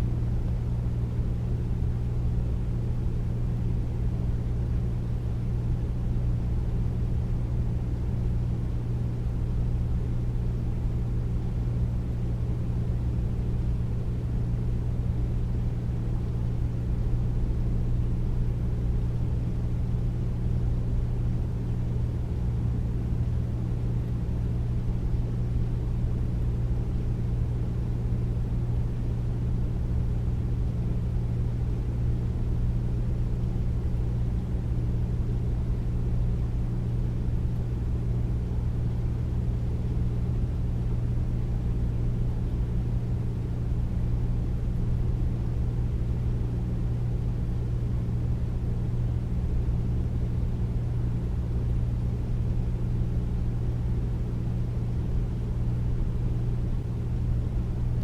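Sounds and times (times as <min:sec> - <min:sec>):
air conditioner humming: 0:00.0 - 0:58.0.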